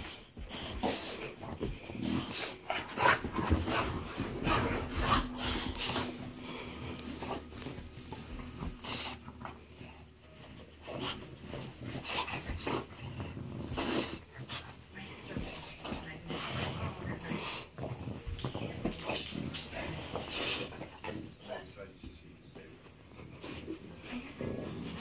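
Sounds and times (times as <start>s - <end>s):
dogs sniffing and breathing: 0.0s - 25.0s.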